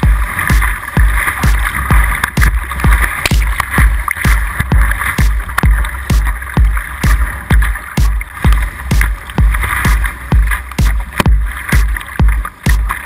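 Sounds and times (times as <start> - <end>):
electronic kick-drum beat music: 0.0 - 13.0.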